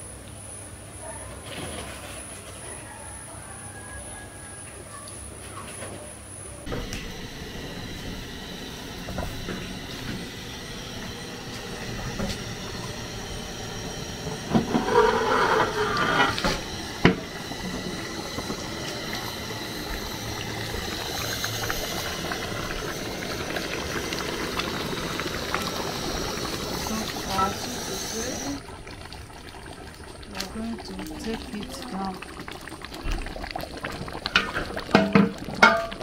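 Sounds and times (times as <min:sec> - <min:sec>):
gas burner hissing: 0:06.4 - 0:36.0.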